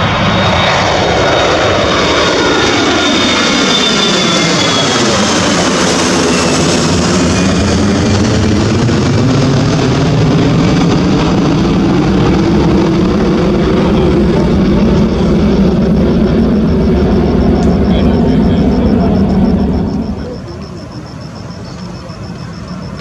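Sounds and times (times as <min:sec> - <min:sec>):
jet airliner climbing overhead: 0:00.0 - 0:23.0.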